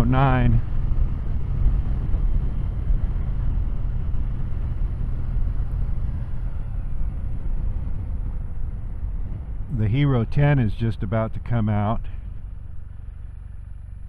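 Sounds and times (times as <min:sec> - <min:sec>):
low wind rumble: 0:00.0 - 0:14.0
motorcycle engine cruising: 0:00.0 - 0:14.0.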